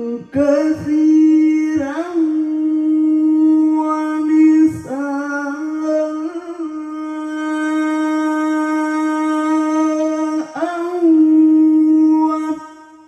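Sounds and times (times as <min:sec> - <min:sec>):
amplified man chanting recitation: 0:00.0 - 0:13.0.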